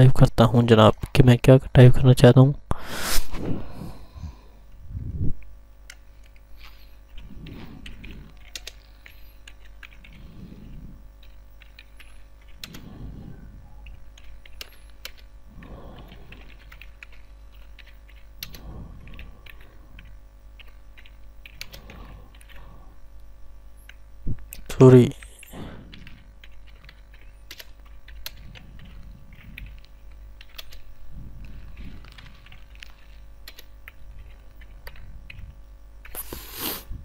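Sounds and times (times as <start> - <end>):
low mains hum: 0.0 - 37.0
soft low sound: 3.0 - 35.9.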